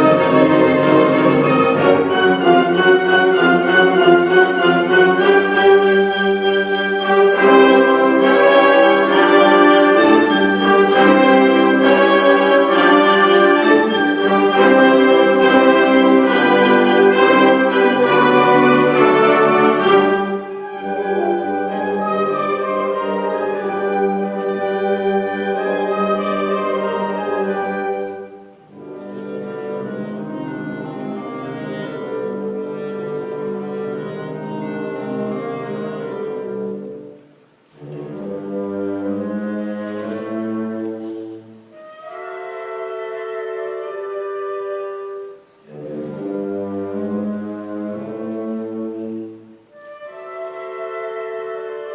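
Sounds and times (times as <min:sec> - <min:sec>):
orchestral music with brass and strings: 0:00.0 - 0:51.9.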